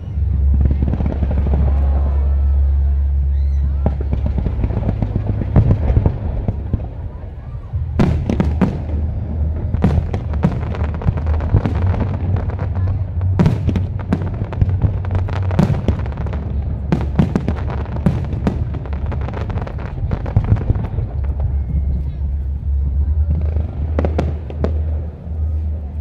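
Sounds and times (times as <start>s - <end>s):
fireworks crackling: 0.0s - 26.0s
low rumble: 0.0s - 26.0s.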